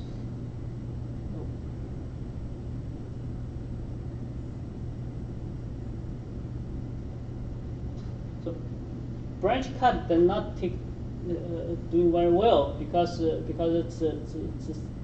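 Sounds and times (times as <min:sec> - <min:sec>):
low hum: 0:00.0 - 0:15.0
low rumble: 0:00.0 - 0:15.0.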